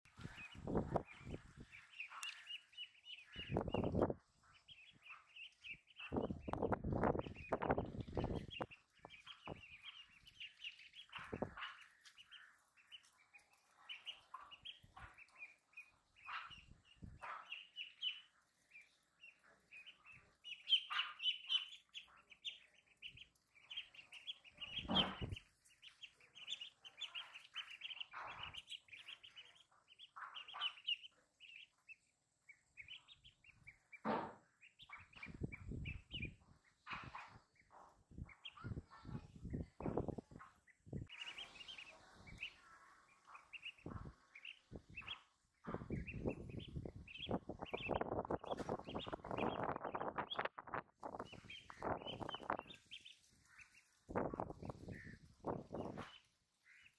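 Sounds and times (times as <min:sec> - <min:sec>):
ducklings peeping: 0:00.0 - 0:56.9.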